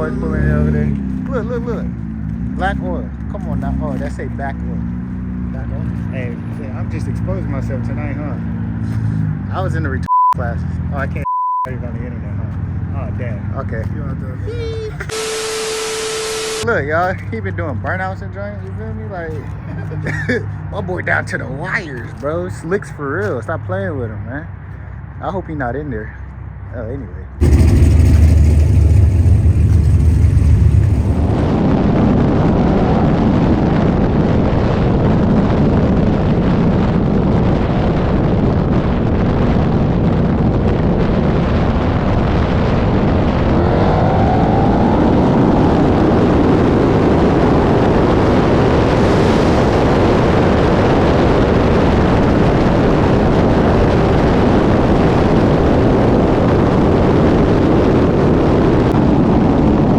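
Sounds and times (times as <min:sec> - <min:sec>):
car engine and exhaust noise: 0:00.0 - 0:59.9.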